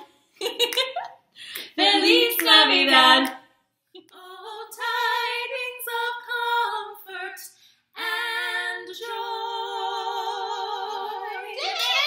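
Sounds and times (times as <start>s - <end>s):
women singing in harmony: 1.7s - 3.4s, 4.0s - 12.0s.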